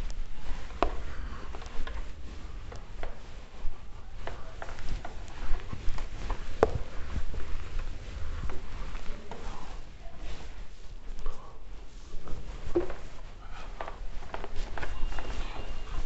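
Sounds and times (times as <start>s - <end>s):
cloth rubbing on whiteboard: 0.0s - 16.0s.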